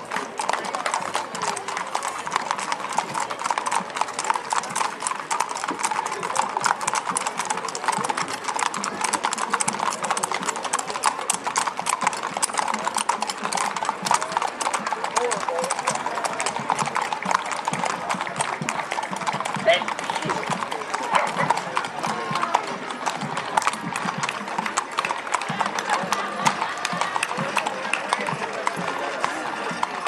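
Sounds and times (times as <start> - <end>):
horse hooves on asphalt: 0.0 - 30.0.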